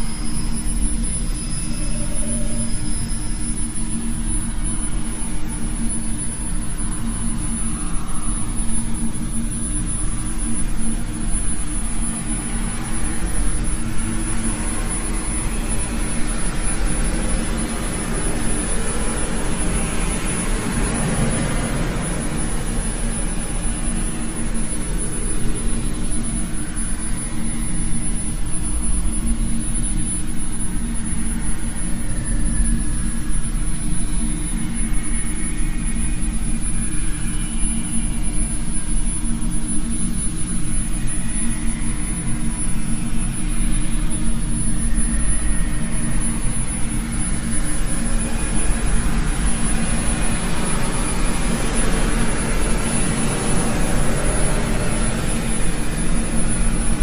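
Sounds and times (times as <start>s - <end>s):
constant hum: 0.0s - 57.0s.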